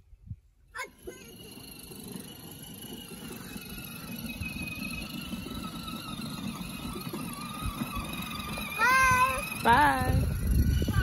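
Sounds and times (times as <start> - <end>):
electric motors whining: 0.8 - 11.0
wheels rumbling over grass: 0.8 - 11.0.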